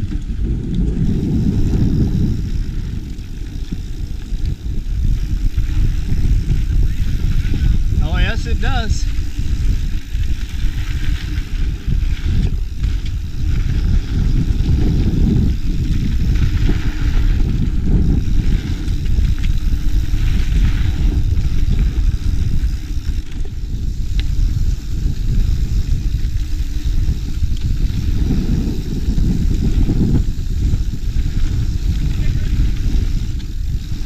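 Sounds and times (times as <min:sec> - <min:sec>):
bike rattles and clicks: 0:00.0 - 0:34.0
wind and rolling tyres: 0:00.0 - 0:34.0.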